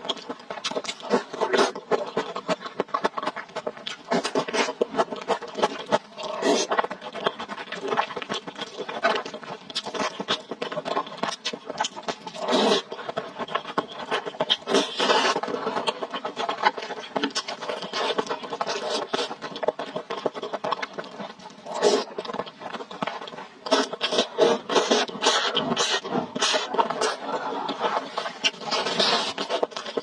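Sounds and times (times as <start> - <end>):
chewing and slurping noodles: 0.0 - 30.0.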